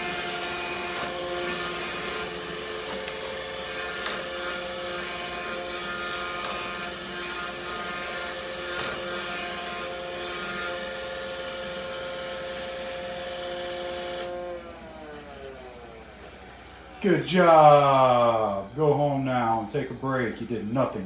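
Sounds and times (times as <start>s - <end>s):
vacuum motor whine: 0.0s - 21.0s.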